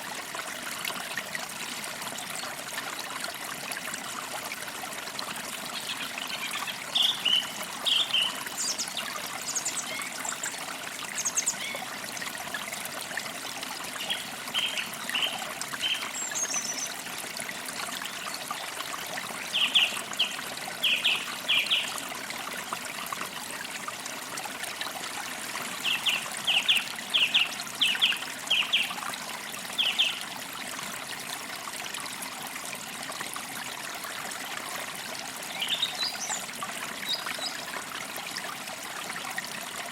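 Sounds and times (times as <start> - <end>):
creek trickling: 0.0 - 39.9.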